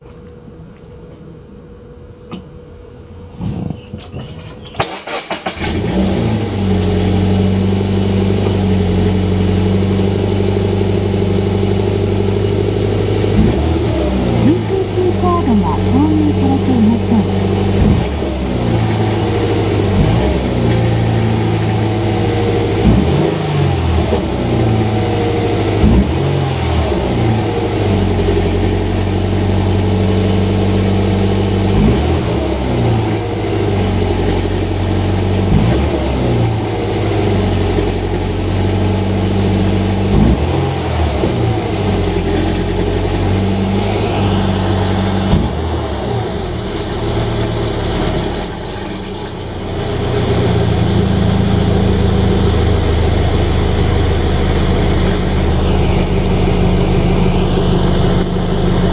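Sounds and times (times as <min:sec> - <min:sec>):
car engine idling and revving: 0:03.4 - 0:58.9.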